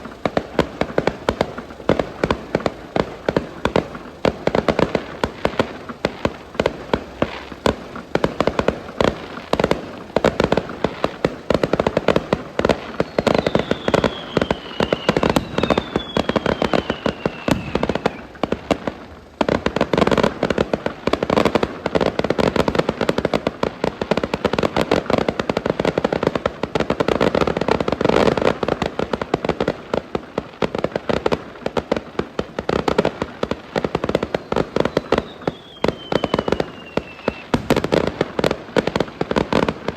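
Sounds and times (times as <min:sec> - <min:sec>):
falling firework whistles: 0:00.0 - 0:39.9
fireworks crackling and banging: 0:00.0 - 0:39.9.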